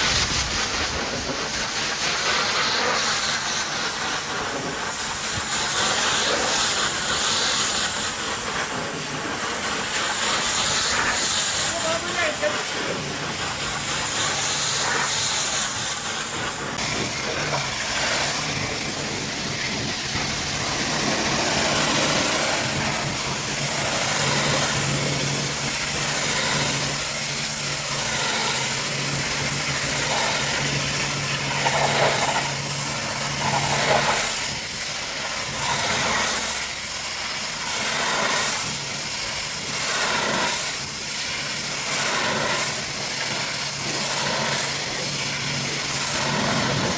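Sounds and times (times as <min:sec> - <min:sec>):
machinery hum: 0:00.0 - 0:46.9
pressure washer spray hissing: 0:00.0 - 0:46.9.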